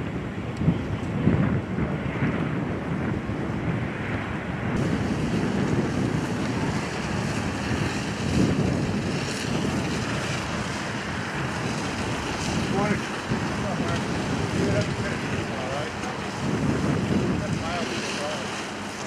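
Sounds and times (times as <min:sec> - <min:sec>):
low rumble: 0:00.0 - 0:18.4
fire hose water stream rushing: 0:00.0 - 0:19.0.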